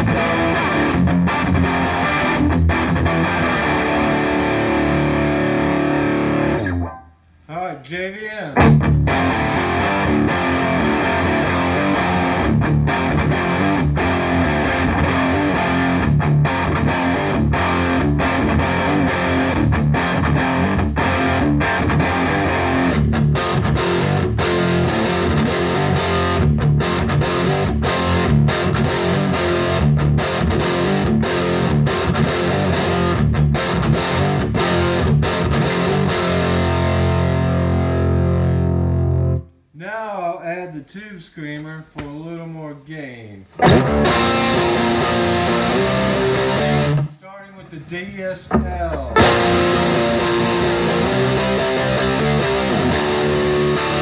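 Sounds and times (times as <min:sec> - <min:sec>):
distorted electric guitar chords: 0:00.0 - 0:07.2, 0:08.6 - 0:39.5, 0:43.5 - 0:47.1, 0:48.4 - 0:54.0.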